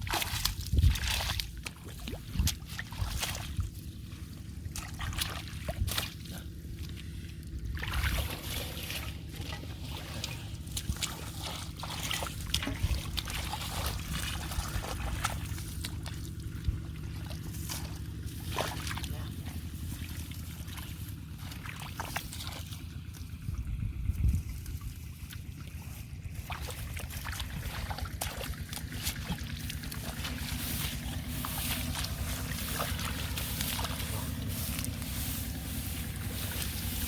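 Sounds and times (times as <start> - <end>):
low rumble: 0.0 - 37.0
short water splashes: 0.0 - 37.0
water trickling and sloshing: 0.0 - 37.0.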